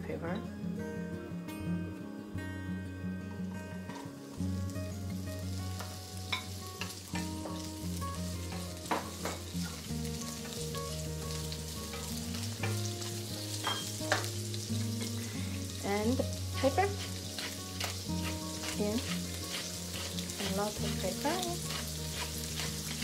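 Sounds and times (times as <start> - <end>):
vegetables sizzling in hot oil: 4.2 - 23.0.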